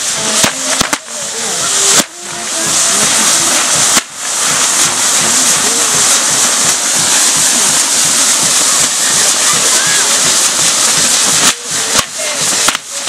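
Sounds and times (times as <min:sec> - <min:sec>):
firework bangs: 0:00.0 - 0:13.0
fireworks hissing: 0:00.0 - 0:13.0.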